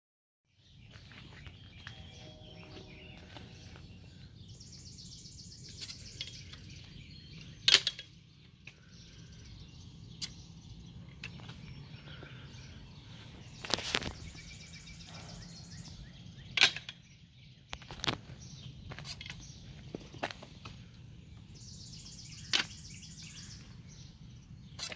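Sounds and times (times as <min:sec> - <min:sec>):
low outdoor hum: 0:00.6 - 0:24.9.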